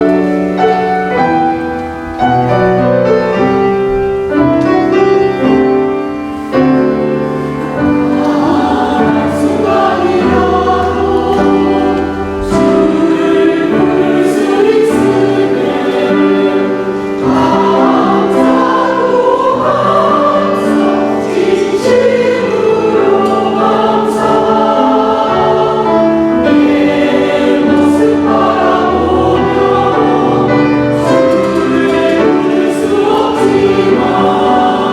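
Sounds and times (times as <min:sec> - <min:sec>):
church choir singing: 0:00.0 - 0:34.9.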